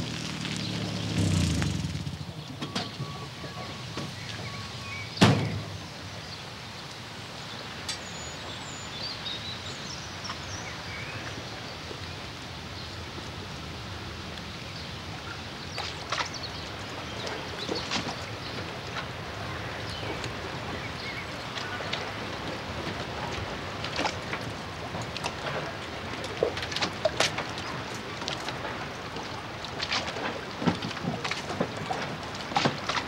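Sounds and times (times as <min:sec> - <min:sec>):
open-air ambience: 0:00.0 - 0:33.0.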